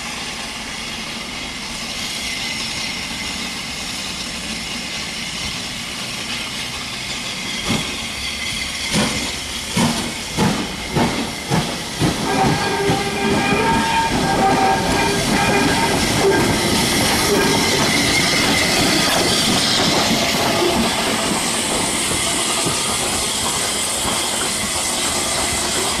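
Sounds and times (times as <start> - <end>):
rattle of train wheels: 0.0 - 26.0
steam locomotive hissing: 0.0 - 26.0.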